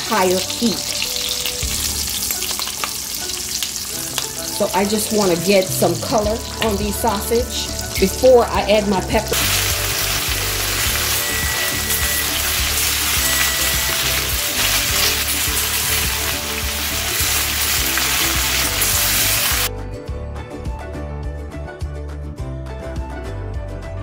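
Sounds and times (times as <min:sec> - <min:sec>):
sausages sizzling in a pan: 0:00.0 - 0:19.7
background music: 0:00.0 - 0:24.0.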